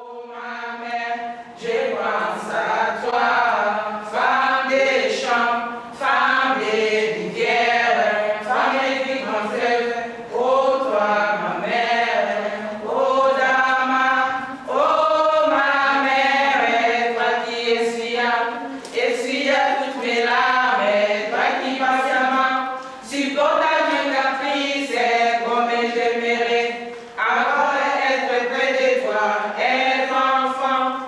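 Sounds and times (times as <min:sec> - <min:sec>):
women singing together: 0:00.0 - 0:31.0.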